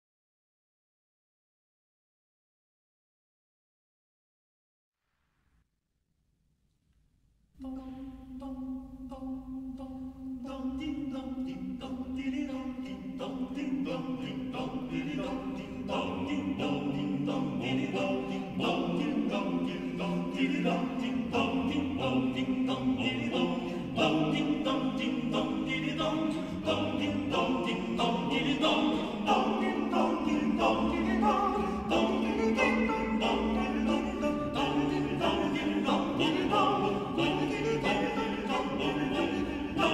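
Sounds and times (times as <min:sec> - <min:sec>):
male choir singing a cappella: 0:07.6 - 0:39.9.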